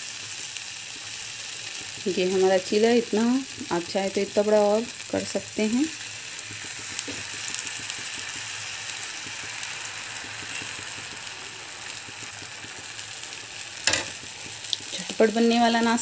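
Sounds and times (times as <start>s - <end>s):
batter sizzling in a pan: 0.0s - 16.0s.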